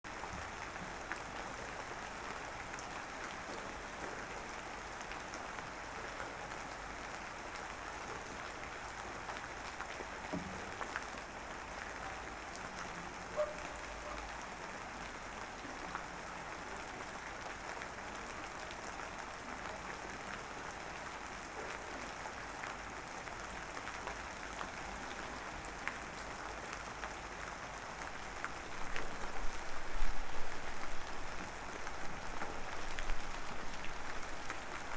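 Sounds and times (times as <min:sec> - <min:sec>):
light rain hiss: 0:00.1 - 0:34.9.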